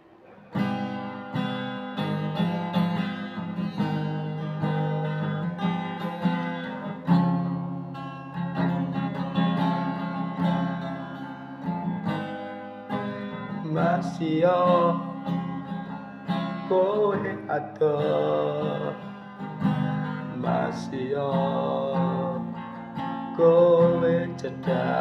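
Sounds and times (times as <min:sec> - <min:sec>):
acoustic guitar playing: 0:00.0 - 0:25.0.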